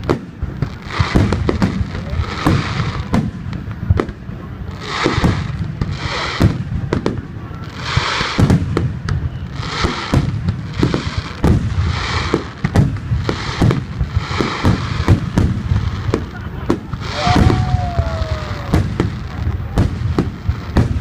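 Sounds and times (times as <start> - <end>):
fireworks bangs: 0.0 - 21.0
hissing crackle: 0.0 - 21.0.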